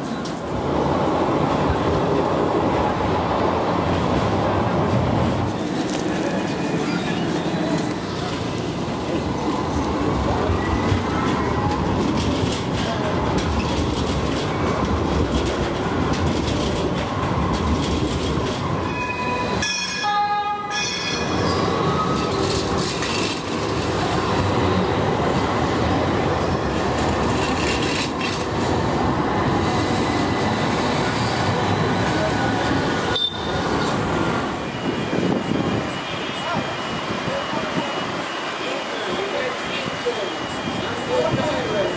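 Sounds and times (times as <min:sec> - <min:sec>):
city traffic noise: 0:00.0 - 0:41.9
trams rumbling on rails: 0:00.0 - 0:41.9
tram wheel squeal: 0:05.5 - 0:28.7, 0:29.6 - 0:41.9.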